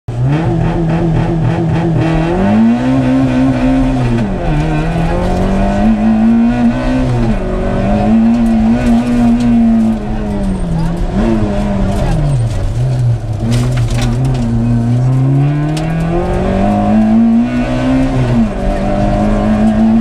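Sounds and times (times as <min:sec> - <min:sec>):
rally car engine revving: 0:00.1 - 0:20.0.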